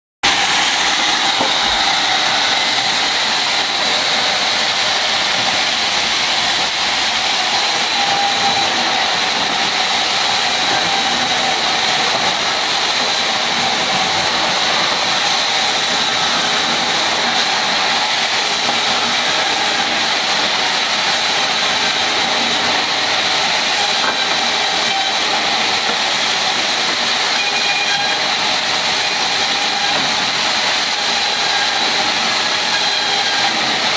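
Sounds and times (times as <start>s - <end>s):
band saw cutting logs: 0.2s - 33.9s.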